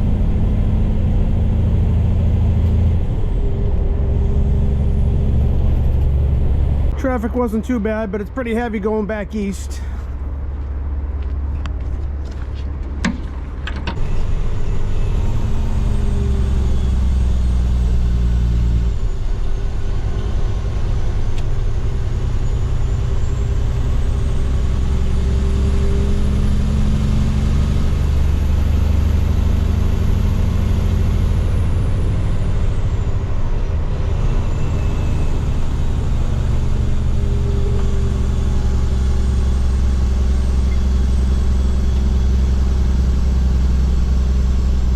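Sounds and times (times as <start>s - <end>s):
diesel truck engine drone: 0.0s - 44.9s.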